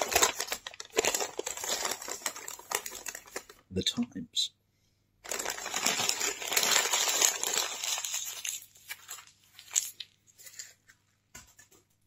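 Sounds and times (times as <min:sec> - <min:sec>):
newspaper crinkling and rustling: 0:00.0 - 0:03.6, 0:05.2 - 0:11.8.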